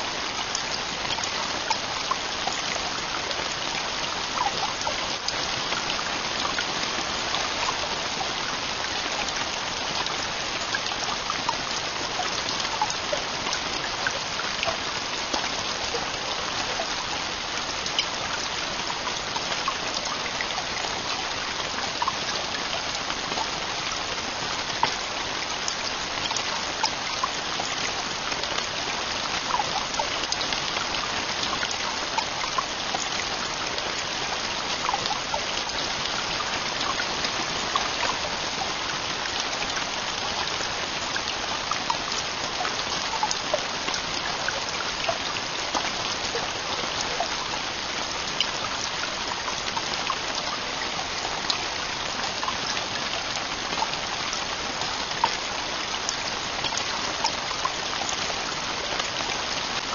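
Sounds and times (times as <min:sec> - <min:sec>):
heavy rain falling: 0:00.0 - 0:59.9
raindrops hitting close by: 0:00.0 - 0:59.9.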